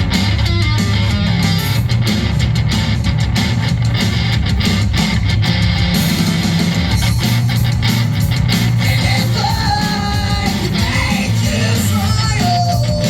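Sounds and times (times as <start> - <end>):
heavy rock band playing: 0.0 - 13.0.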